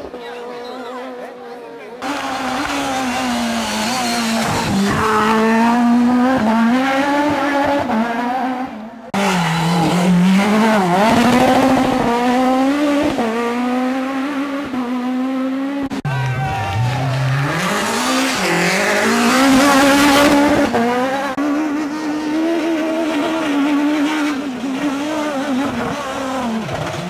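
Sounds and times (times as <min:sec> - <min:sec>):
rally car engine revving: 0:00.0 - 0:27.0.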